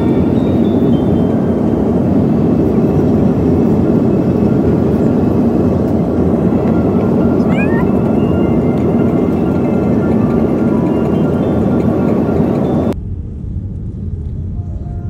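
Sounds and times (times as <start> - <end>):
jet airliner cabin drone: 0.0 - 15.0.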